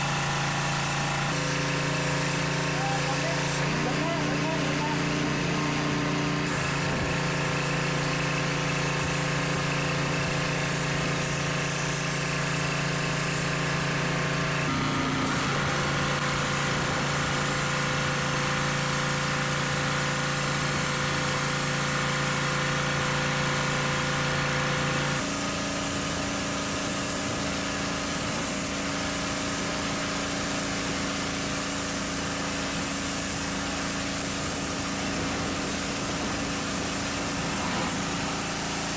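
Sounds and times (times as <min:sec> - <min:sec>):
pressure washer engine running: 0:00.0 - 0:38.9.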